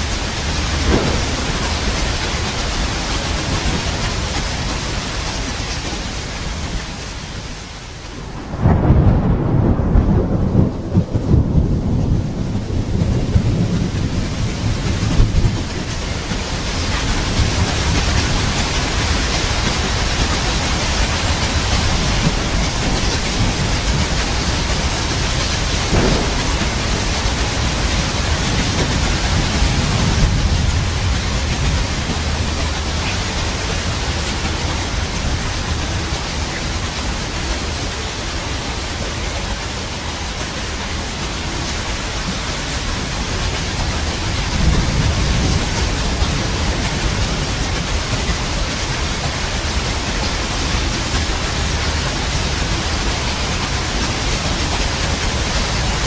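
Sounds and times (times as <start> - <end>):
heavy rain: 0.0 - 56.0
low rolling thunder: 0.0 - 56.0.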